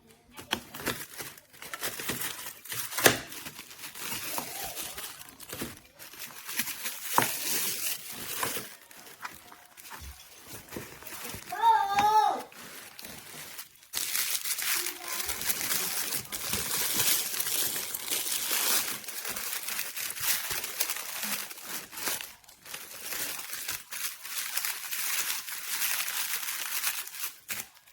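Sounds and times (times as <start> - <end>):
packaging crinkling and rustling: 0.3 - 27.9.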